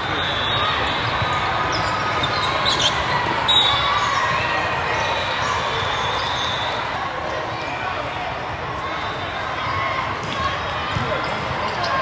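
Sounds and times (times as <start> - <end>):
din of many voices: 0.0 - 12.0.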